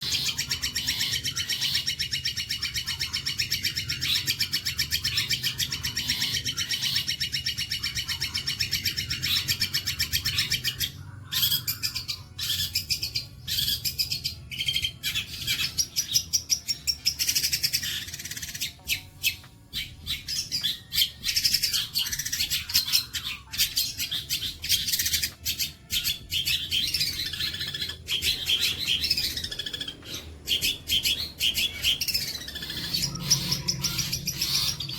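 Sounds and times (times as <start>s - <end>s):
songbird trilling and chattering: 0.0s - 34.9s.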